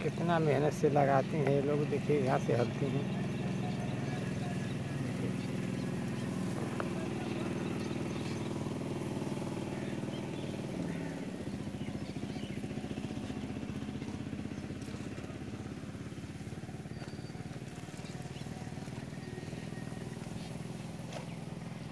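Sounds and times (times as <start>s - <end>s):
small engine running: 0.0s - 21.9s.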